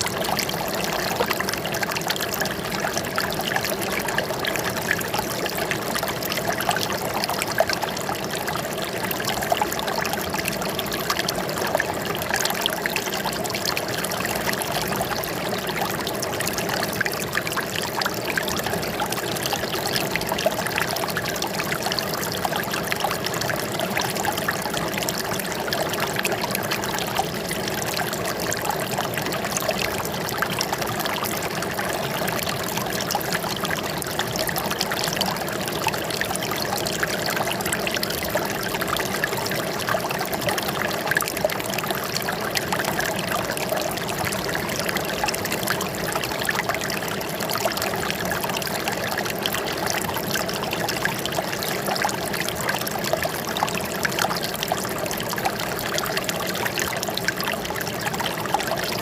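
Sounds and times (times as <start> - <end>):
water flowing and trickling: 0.0 - 59.0.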